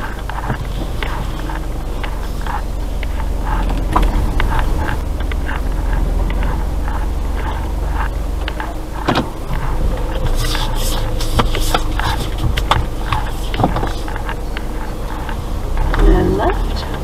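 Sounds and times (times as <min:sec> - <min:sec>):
car engine and road rumble: 0:00.0 - 0:17.0
creaks: 0:00.0 - 0:17.0.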